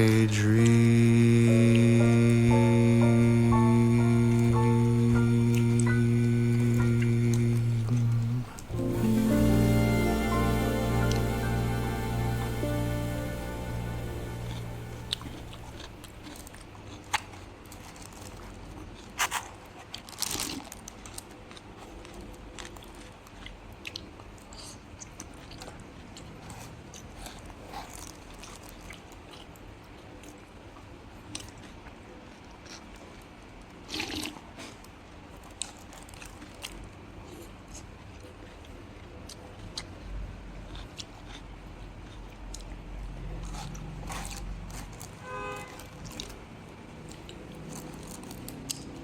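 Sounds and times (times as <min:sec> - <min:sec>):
person chewing: 0:00.0 - 0:29.6, 0:33.9 - 0:40.0, 0:40.6 - 0:45.2, 0:45.8 - 0:49.0.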